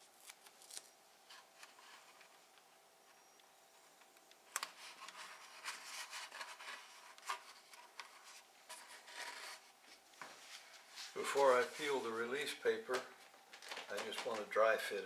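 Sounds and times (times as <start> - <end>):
hands rustling plastic and tape: 0.0 - 2.6, 4.4 - 14.8.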